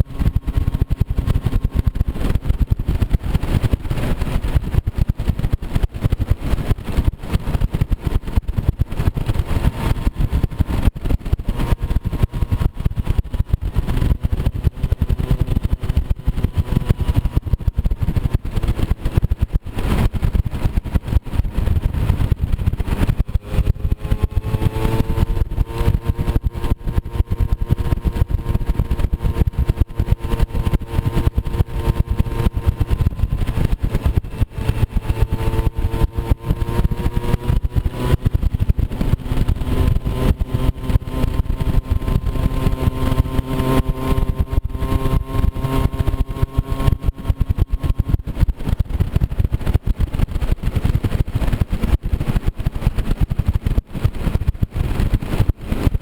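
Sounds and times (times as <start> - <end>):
heavy low rumble: 0.0 - 52.1
moped engine running: 0.0 - 56.0.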